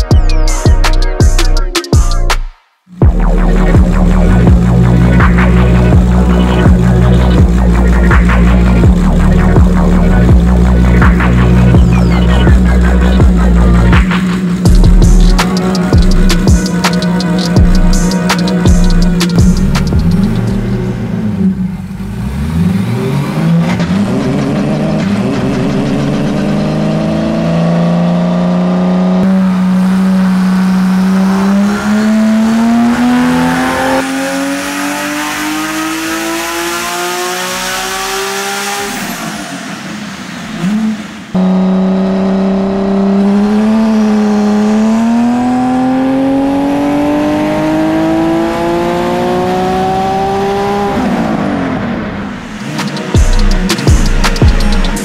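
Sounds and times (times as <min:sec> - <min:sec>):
engine revving under load: 0:03.0 - 0:55.0.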